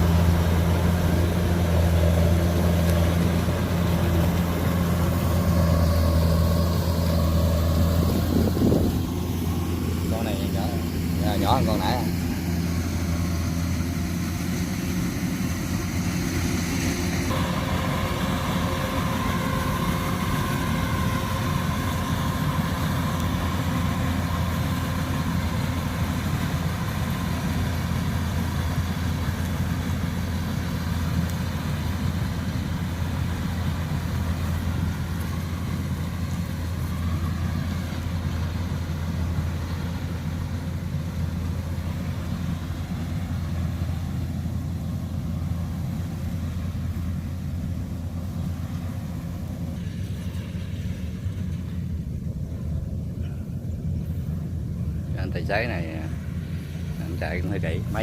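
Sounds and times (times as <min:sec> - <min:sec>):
combine harvester diesel engine: 0:00.0 - 0:58.0
machinery whine: 0:00.0 - 0:58.0.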